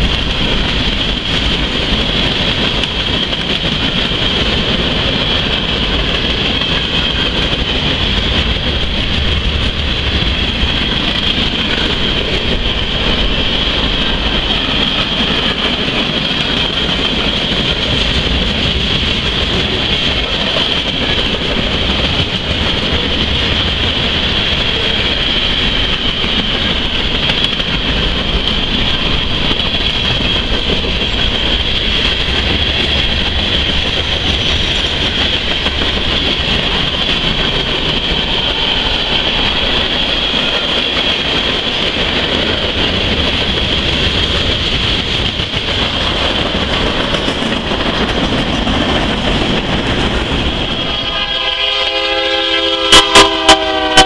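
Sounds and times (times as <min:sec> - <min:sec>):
freight train heavy rumble: 0:00.0 - 0:54.0.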